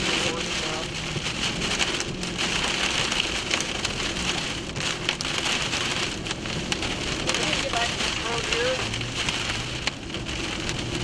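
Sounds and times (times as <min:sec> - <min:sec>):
heavy rain on vehicle: 0:00.0 - 0:11.0.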